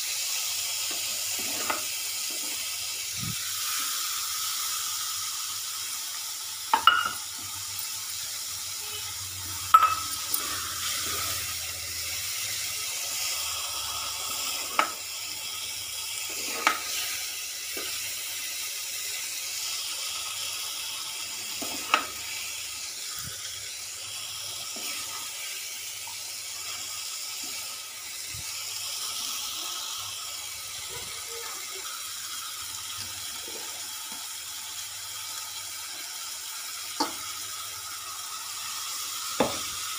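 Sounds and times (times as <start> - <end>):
vegetables sizzling in a pan: 0.0 - 39.9.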